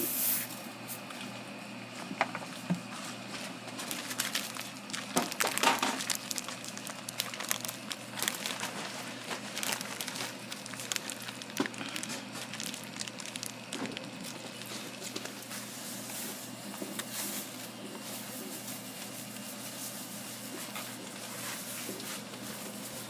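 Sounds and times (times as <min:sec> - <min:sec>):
plastic bag crinkling: 0:03.7 - 0:23.0.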